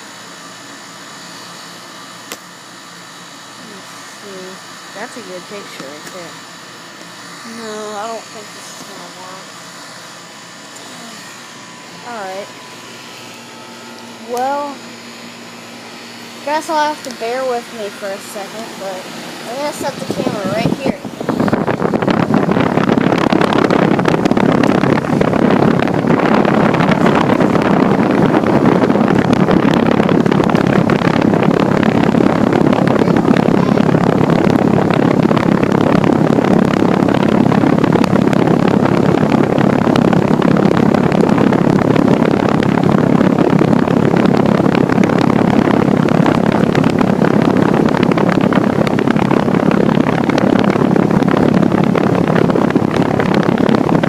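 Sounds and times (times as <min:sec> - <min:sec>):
air conditioner unit running: 0:00.0 - 0:54.0
condenser fan whoosh: 0:00.0 - 0:54.0.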